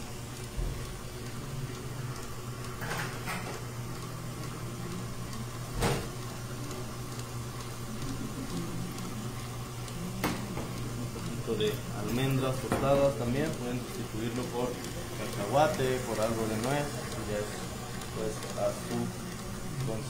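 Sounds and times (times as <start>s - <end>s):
stand mixer whisking cream: 0.0s - 20.0s.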